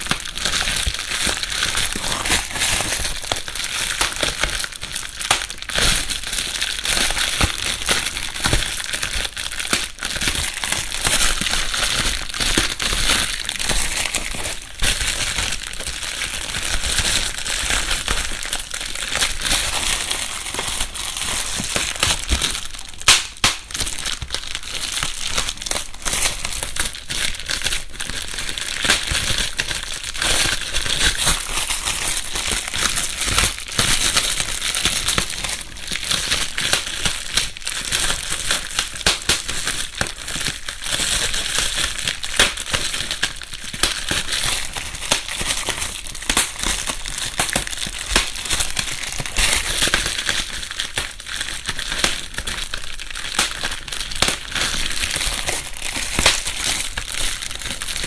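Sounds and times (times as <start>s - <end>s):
bubble wrap rustling and popping: 0.0s - 58.0s.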